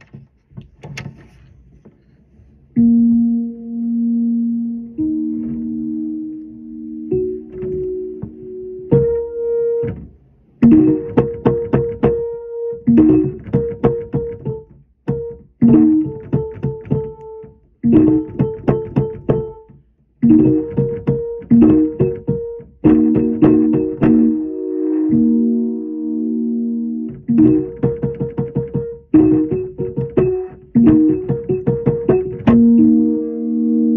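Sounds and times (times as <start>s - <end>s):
electric keyboard playing a tune: 2.8s - 9.9s, 10.6s - 33.9s.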